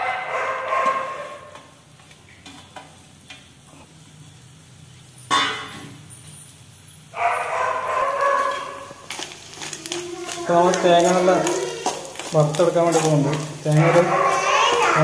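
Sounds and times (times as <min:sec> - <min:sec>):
coconut sizzling in oil: 0:01.4 - 0:15.0.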